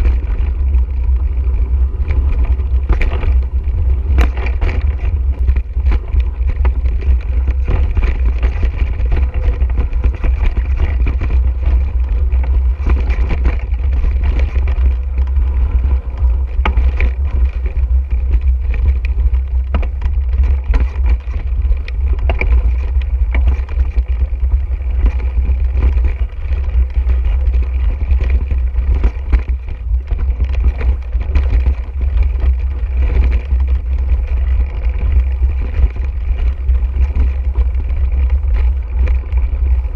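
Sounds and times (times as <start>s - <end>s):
bike rattling and clattering: 0.0s - 39.9s
wind rumble on microphone: 0.0s - 39.9s.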